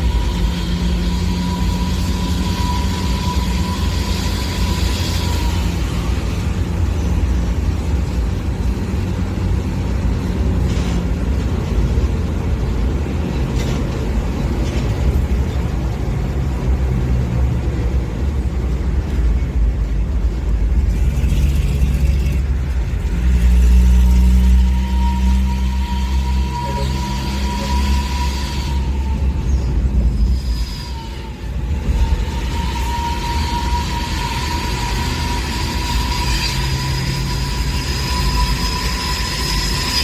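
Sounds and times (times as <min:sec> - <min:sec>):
diesel locomotive engine rumbling: 0:00.0 - 0:40.0.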